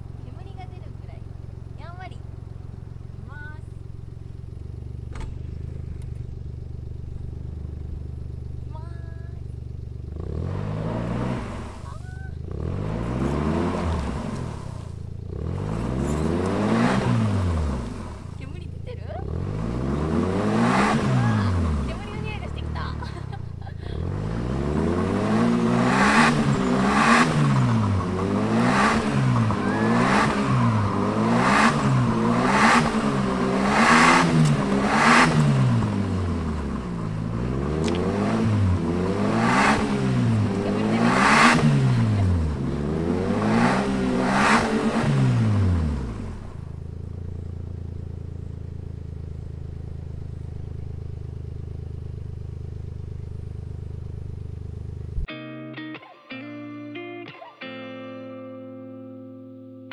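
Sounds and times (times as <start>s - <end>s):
car engine idling: 0.0s - 55.3s
car engine revving: 3.9s - 55.3s.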